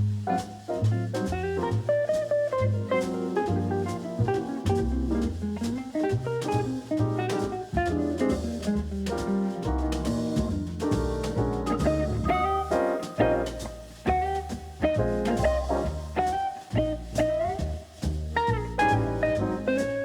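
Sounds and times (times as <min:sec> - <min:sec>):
drum kit beat: 0:00.0 - 0:20.0
guitar: 0:00.0 - 0:20.0
walking bass: 0:00.0 - 0:20.0.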